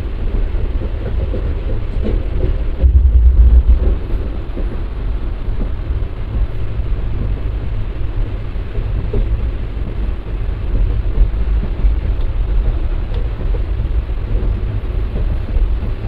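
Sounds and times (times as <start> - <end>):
train rumble and rush: 0.0 - 16.0.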